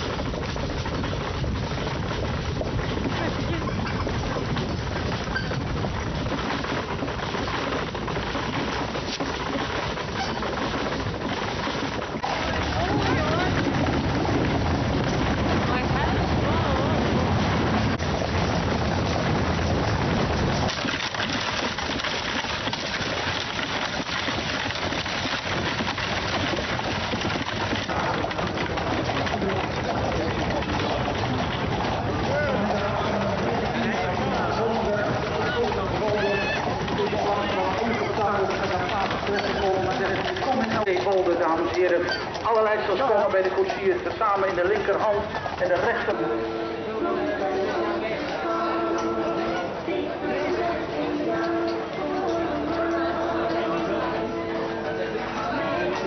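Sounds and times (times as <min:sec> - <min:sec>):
carriage rumbling and rattling: 0:00.0 - 0:46.4
horses' hooves: 0:00.0 - 0:56.0.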